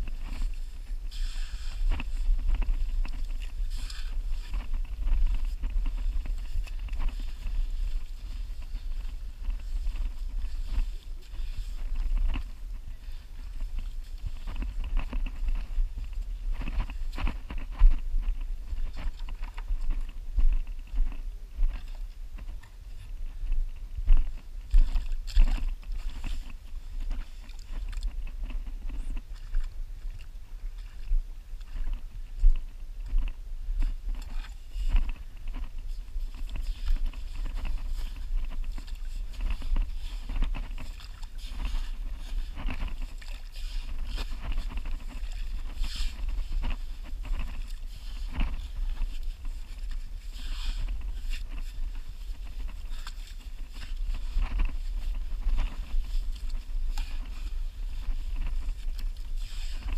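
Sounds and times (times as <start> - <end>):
footsteps on wet mud: 0.0 - 59.9
wind rumble on microphone: 0.0 - 59.9.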